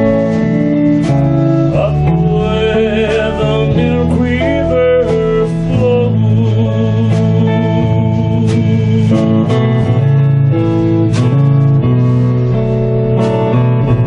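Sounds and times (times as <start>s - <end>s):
drums: 0.0s - 14.0s
electric bass: 0.0s - 14.0s
electric guitar: 0.0s - 14.0s.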